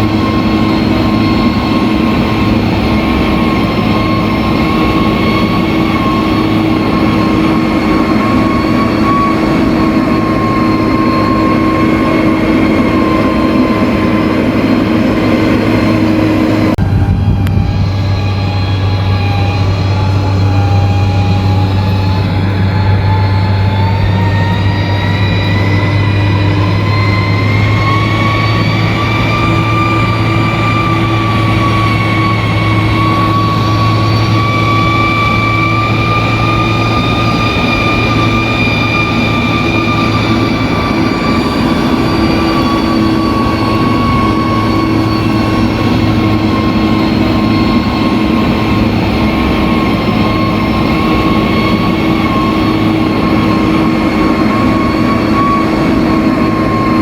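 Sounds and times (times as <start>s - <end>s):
bulldozer diesel engine under load: 0.0s - 57.0s
high whine: 0.0s - 57.0s.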